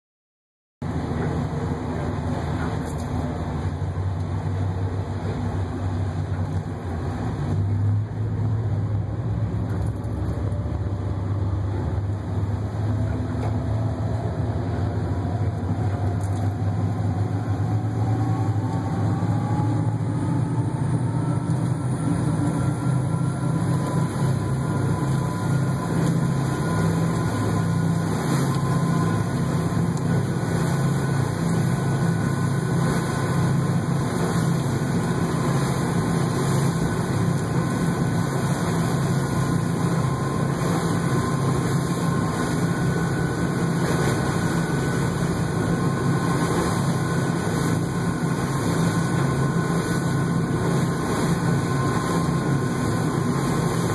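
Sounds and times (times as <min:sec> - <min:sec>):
boat diesel engines droning: 0:00.8 - 0:53.9.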